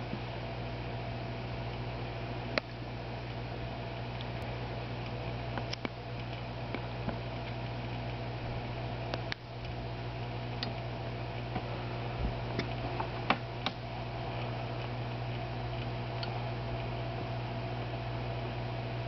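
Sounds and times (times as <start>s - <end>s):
aquarium equipment hum: 0.0s - 19.0s.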